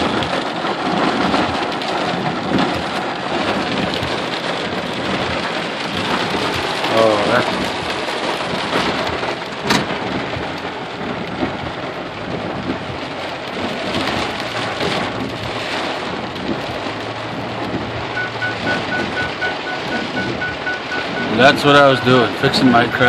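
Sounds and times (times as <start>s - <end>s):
heavy rain on a vehicle roof: 0.0s - 23.0s.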